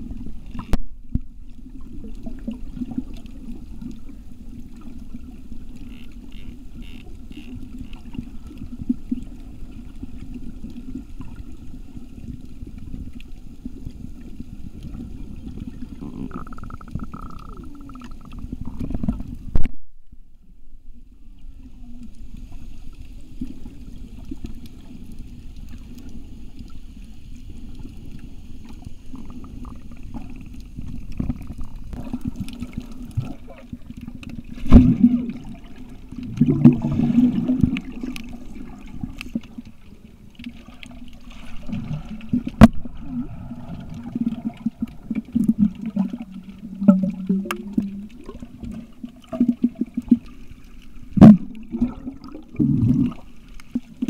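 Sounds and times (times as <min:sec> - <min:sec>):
underwater water rush with gurgling: 0:00.0 - 0:54.0.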